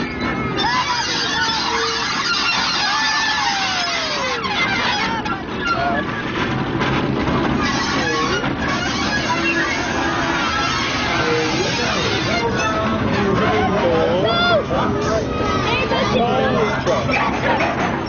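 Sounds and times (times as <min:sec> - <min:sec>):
children calling and chattering: 0:00.0 - 0:06.4, 0:07.7 - 0:18.0
crowd noise: 0:00.0 - 0:18.0
diesel engine hum: 0:00.0 - 0:18.0.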